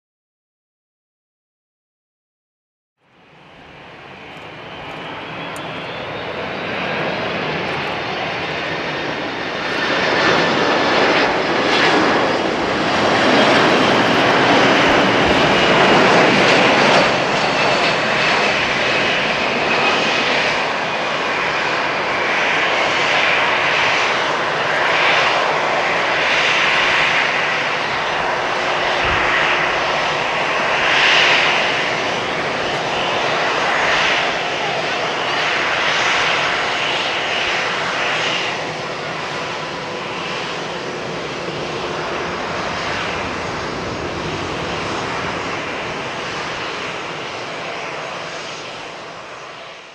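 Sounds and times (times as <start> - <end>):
jet engines with high whine: 3.0 - 49.9.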